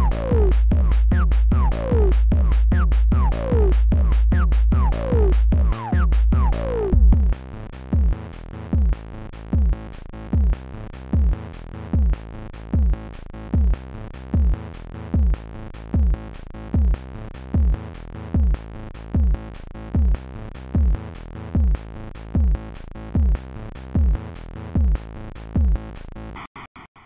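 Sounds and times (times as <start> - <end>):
deep kick drum with falling pitch: 0.0 - 23.4, 24.0 - 25.9.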